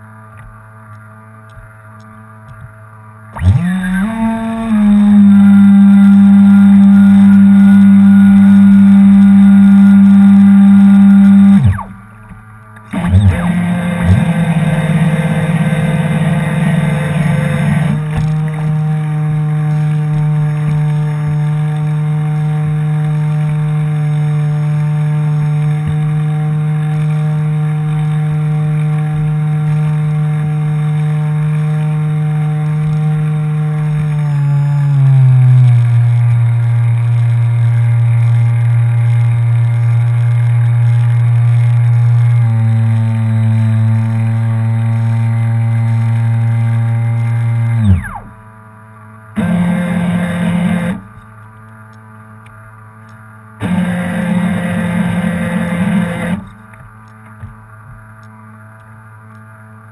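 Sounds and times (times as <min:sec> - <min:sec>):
model boat motor running: 0:03.3 - 0:48.6, 0:49.3 - 0:51.3, 0:53.6 - 0:56.8.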